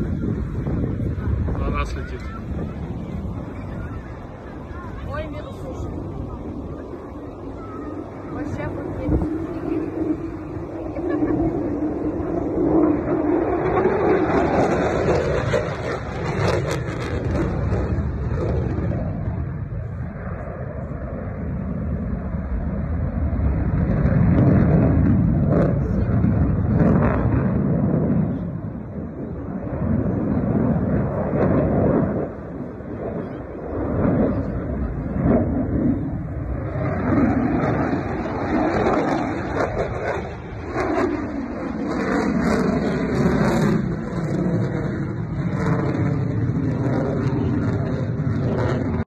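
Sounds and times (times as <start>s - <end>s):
jet passing overhead: 0.0s - 49.0s.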